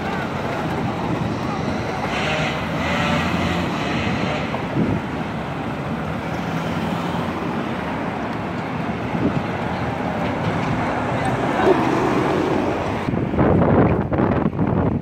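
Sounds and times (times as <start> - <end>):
cars driving past: 0.0 - 13.6
diesel bus approaching: 0.0 - 15.0.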